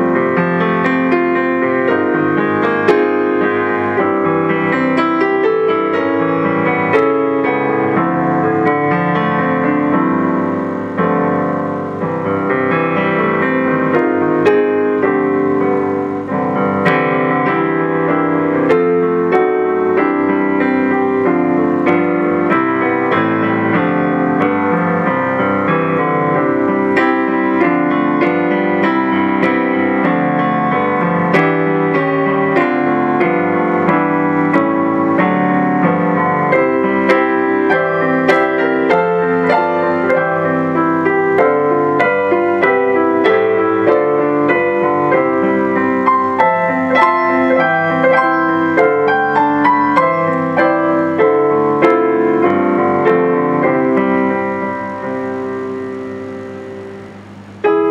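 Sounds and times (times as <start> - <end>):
digital piano playing: 0.0 - 57.9.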